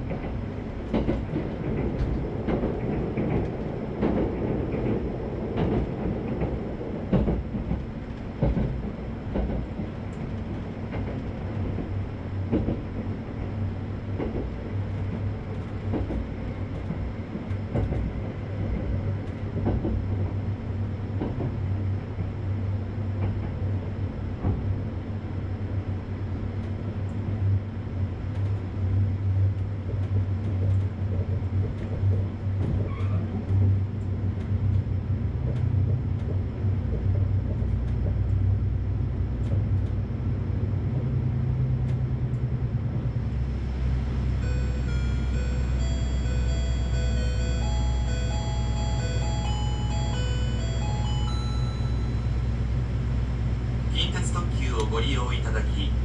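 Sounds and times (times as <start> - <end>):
electric train rumbling: 0.0 - 56.0.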